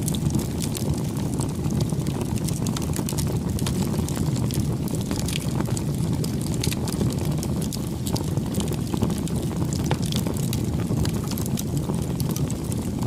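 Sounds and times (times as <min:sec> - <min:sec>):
burning wood crackling: 0:00.0 - 0:13.0
rush of flames: 0:00.0 - 0:13.0.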